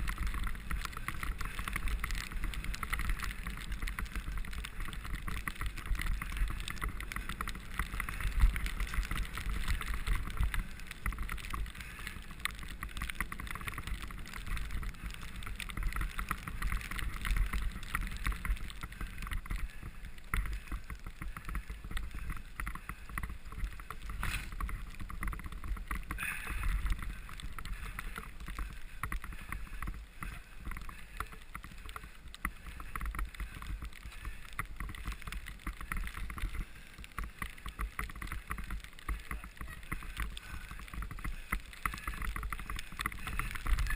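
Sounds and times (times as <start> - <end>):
bike rattling: 0.0 - 43.9
bike tyre noise on snow: 0.0 - 43.9
wind rumbling on microphone: 0.0 - 43.9.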